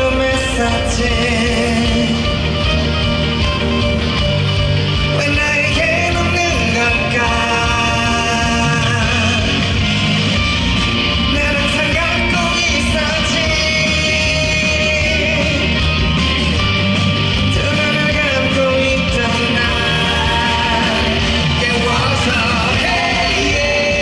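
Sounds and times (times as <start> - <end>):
man singing: 0.0 - 3.1, 5.0 - 10.1, 11.2 - 16.1, 17.3 - 24.0
band playing: 0.0 - 24.0.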